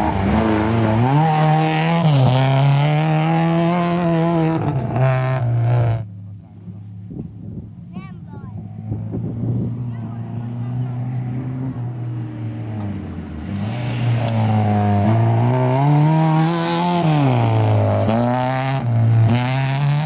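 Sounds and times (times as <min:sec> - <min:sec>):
rally car engine revving: 0:00.0 - 0:07.0, 0:08.5 - 0:20.0.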